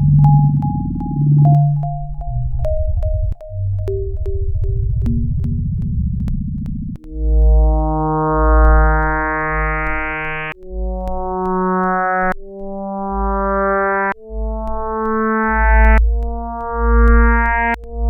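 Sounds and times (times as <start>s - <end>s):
faint clicks: 0.0s - 18.0s
synthesizer music: 0.0s - 18.0s.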